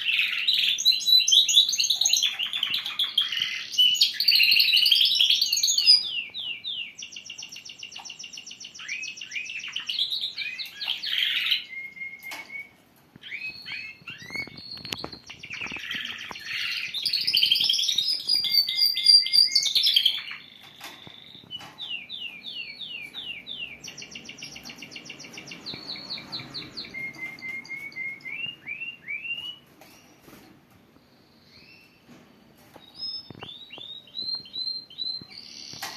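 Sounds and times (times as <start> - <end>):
canaries singing: 0.0 - 35.9.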